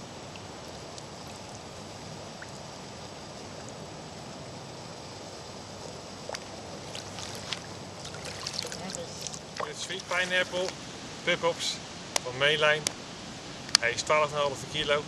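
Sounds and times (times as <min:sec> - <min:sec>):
rippling water: 0:00.0 - 0:12.4.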